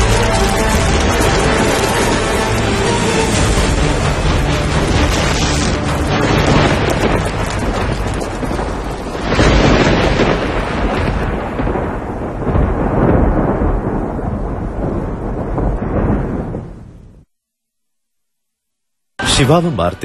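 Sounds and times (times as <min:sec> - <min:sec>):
explosion blast: 0:00.0 - 0:17.2
rumbling fire roar: 0:00.0 - 0:17.2.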